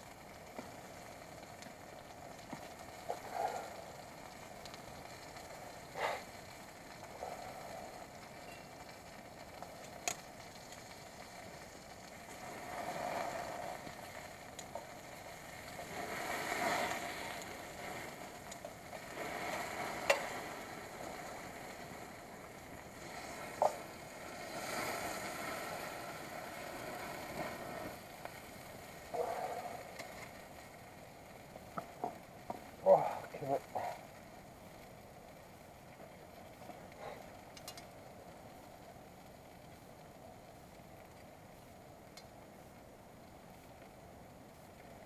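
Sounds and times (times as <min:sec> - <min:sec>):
fire popping: 0:00.0 - 0:45.0
skillet sizzling over campfire: 0:00.0 - 0:45.0.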